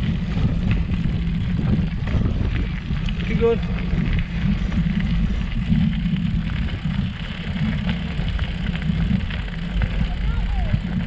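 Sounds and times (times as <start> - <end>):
bike rattling and ticking: 0.0 - 11.0
bike tyres rumbling on gravel: 0.0 - 11.0.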